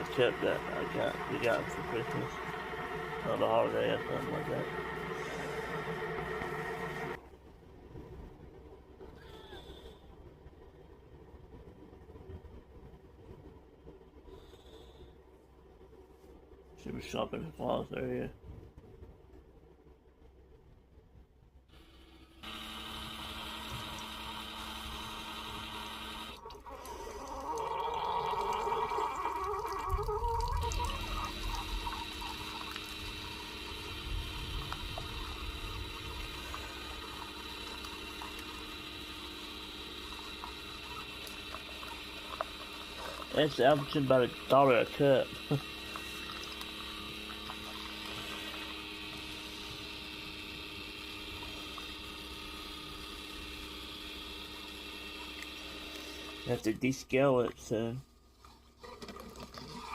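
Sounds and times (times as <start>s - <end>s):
coffee maker gurgling and humming: 0.0s - 10.1s, 21.8s - 59.9s.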